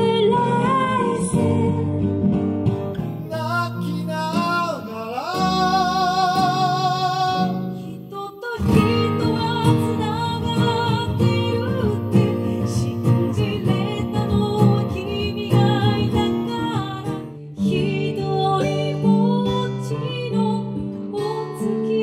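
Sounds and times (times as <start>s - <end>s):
acoustic guitar chords: 0.0s - 22.0s
person singing with vibrato: 2.9s - 22.0s.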